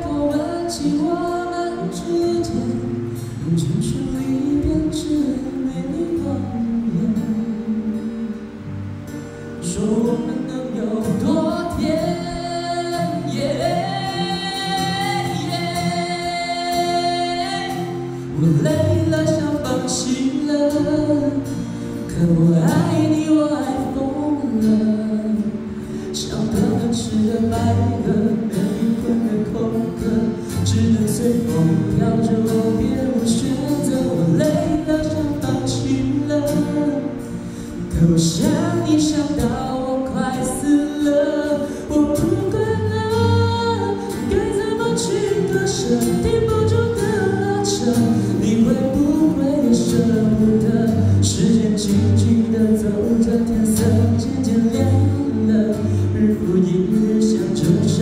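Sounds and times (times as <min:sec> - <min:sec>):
acoustic guitar: 0:00.0 - 0:58.0
person singing pop ballad: 0:00.0 - 0:58.0.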